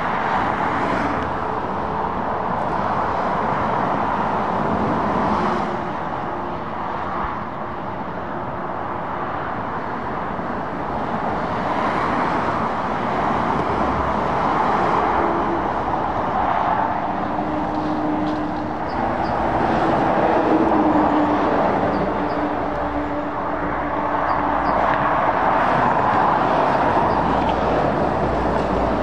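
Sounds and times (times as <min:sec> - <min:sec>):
traffic tyre noise: 0:00.0 - 0:29.0.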